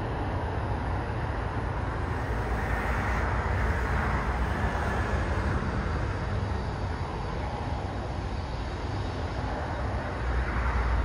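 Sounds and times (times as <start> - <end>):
jet engine rumble and hiss: 0.0 - 11.0.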